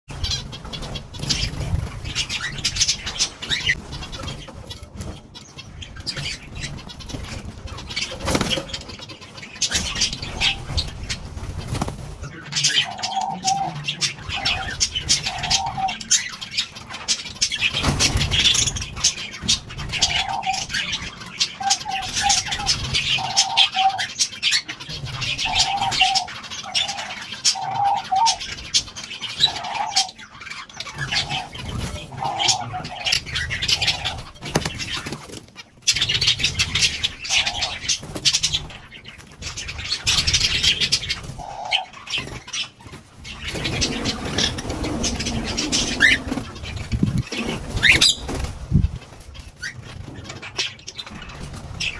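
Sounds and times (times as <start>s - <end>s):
pigeons cooing: 0.1s - 51.9s
small birds chirping: 0.1s - 51.9s.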